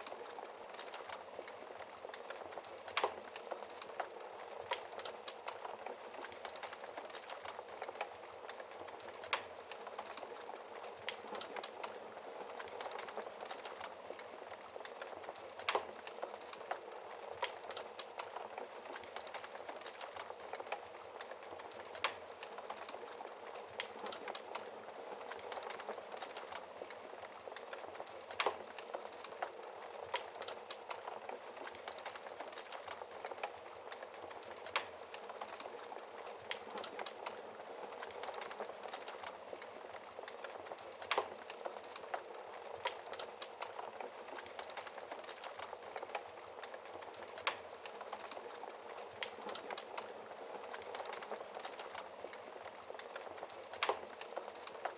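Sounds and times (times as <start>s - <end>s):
fire popping: 0.0s - 54.9s
wood fire crackling: 0.0s - 54.9s.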